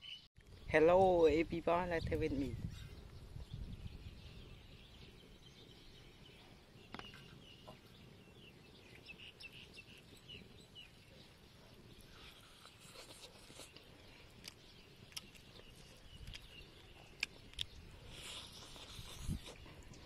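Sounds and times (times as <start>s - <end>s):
distant bird chirps: 1.7s - 20.0s.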